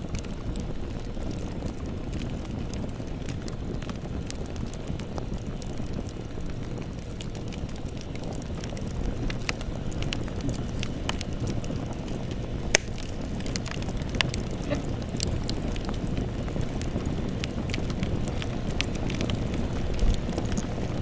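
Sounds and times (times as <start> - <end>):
burning wood crackling and popping: 0.0 - 21.0
flames rumbling: 0.0 - 21.0.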